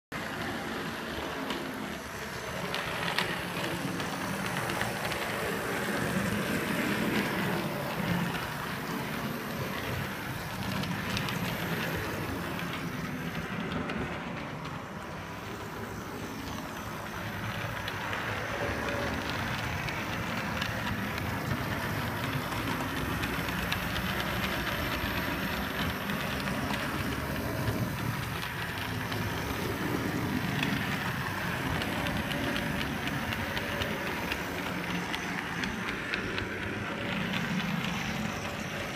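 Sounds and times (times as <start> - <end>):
model train motor whirring: 0.2 - 38.9.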